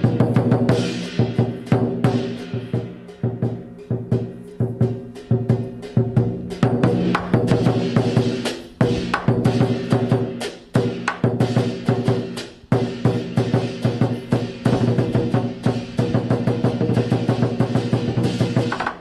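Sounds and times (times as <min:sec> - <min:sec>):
fast drumming with heavy accents: 0:00.0 - 0:19.0.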